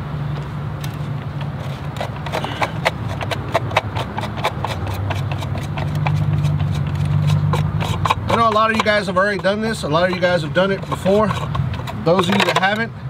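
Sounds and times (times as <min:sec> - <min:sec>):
lug nut covers clicking: 0:00.8 - 0:12.9.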